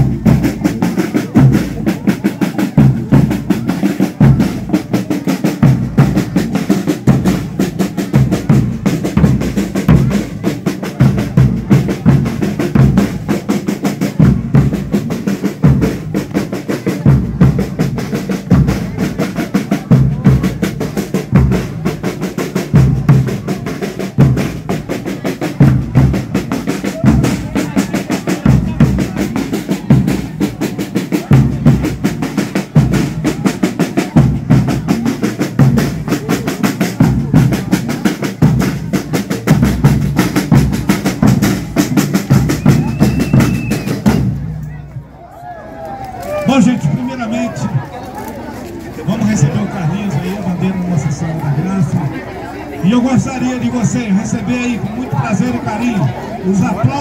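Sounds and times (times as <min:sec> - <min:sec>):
bass drum beat: 0:00.0 - 0:45.2, 0:45.8 - 0:57.0
snare drums with rolls: 0:00.0 - 0:57.0.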